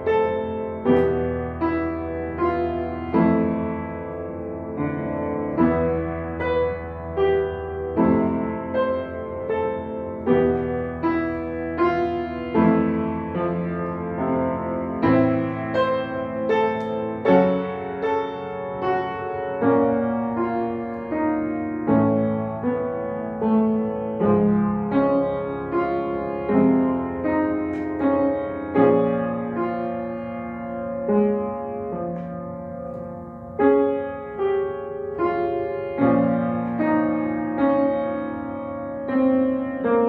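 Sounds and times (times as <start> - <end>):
slow upright piano piece: 0.0 - 40.0.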